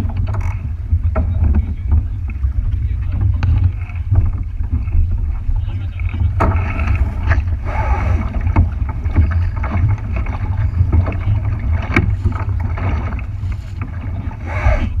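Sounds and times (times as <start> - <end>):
splashes against hull: 0.0 - 15.0
water noise: 0.0 - 15.0
wind buffeting microphone: 0.0 - 15.0.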